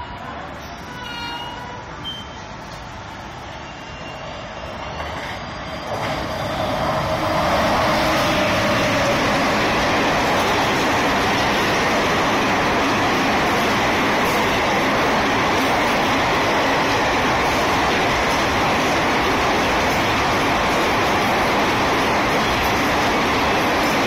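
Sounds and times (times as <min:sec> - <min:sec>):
train rushing past on rails: 0:00.0 - 0:24.0.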